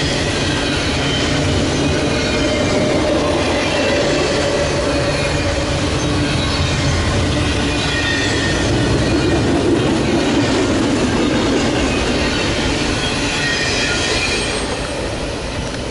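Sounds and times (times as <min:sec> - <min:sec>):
wheels squealing: 0:00.0 - 0:15.8
freight train rumbling on rails: 0:00.0 - 0:15.9.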